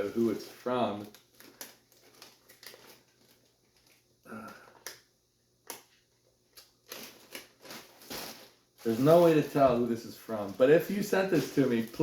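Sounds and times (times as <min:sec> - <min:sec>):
packaging rustling: 0:00.0 - 0:04.7, 0:06.5 - 0:12.0.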